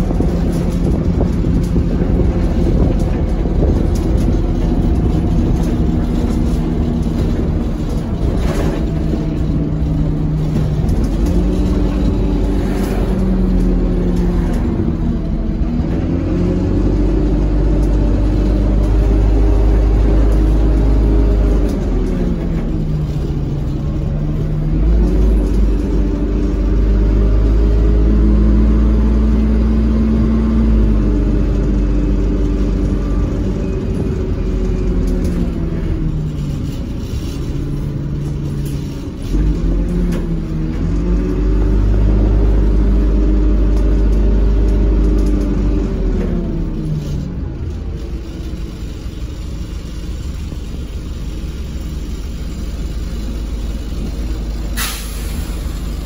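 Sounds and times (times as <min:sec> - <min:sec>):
bus diesel engine: 0:00.0 - 0:56.0
rumble of moving bus: 0:00.0 - 0:56.0.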